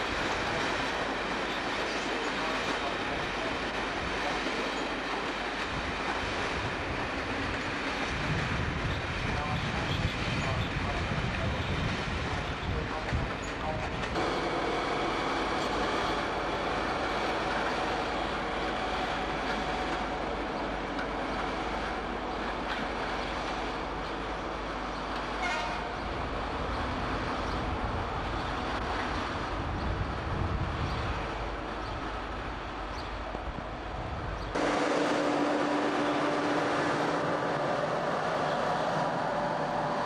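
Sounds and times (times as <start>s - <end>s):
diesel locomotive engine running: 0.0s - 40.0s.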